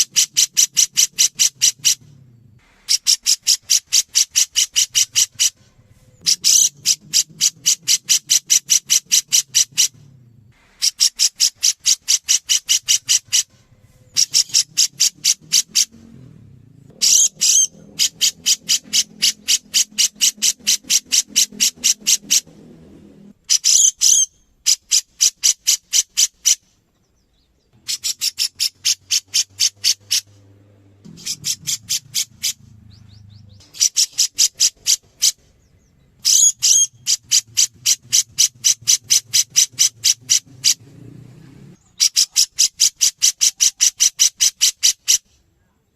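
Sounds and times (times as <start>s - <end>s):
bird calling in sharp notes: 0.0s - 45.4s.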